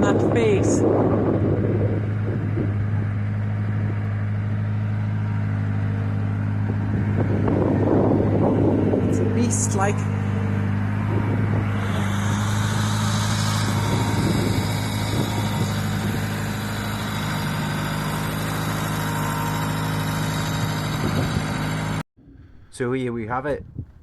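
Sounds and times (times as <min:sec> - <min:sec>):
diesel engine running at low revs: 0:00.0 - 0:22.8.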